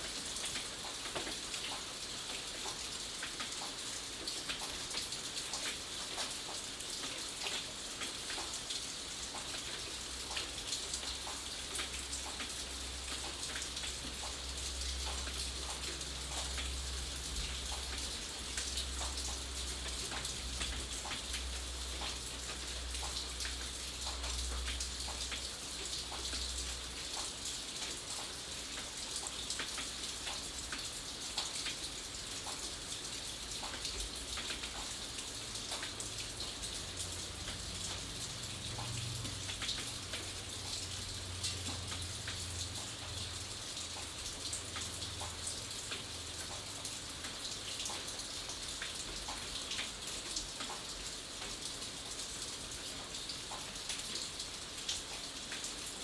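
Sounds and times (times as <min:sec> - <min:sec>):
raindrops ticking on a surface: 0:00.0 - 0:56.0
steady rain: 0:00.0 - 0:56.0.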